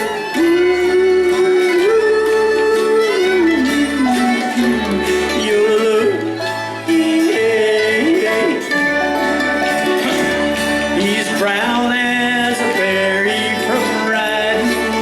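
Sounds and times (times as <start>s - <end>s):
bluegrass band playing: 0.0s - 15.0s
plucked bass line: 0.0s - 15.0s.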